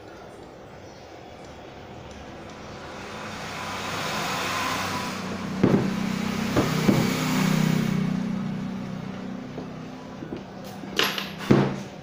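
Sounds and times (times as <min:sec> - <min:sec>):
low engine hum: 0:01.5 - 0:12.0
vehicle passing with rushing noise: 0:01.6 - 0:12.0.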